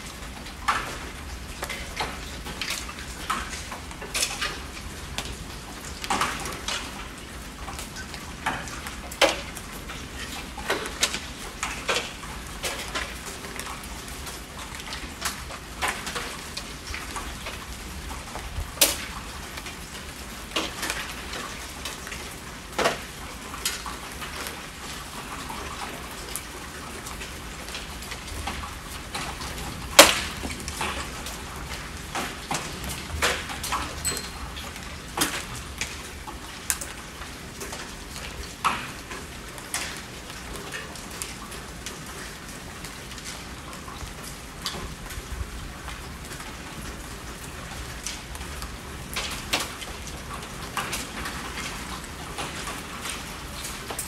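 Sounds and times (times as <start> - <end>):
rain hiss: 0.0 - 54.0.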